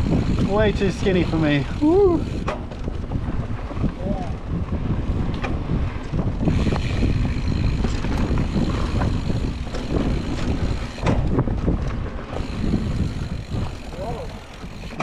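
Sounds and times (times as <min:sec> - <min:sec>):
bike rattling over ground: 0:00.0 - 0:15.0
wind rumble on microphone: 0:00.0 - 0:15.0.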